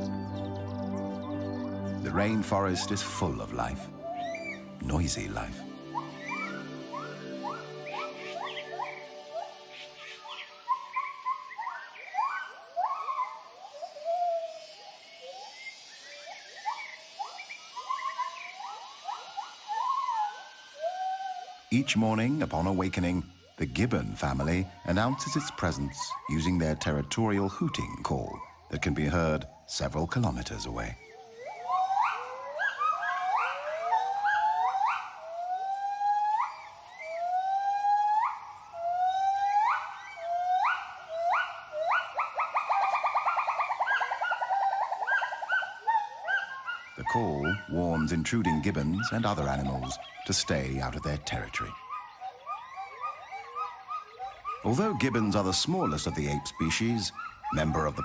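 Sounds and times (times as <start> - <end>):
gibbons hooting: 0.0 - 58.0.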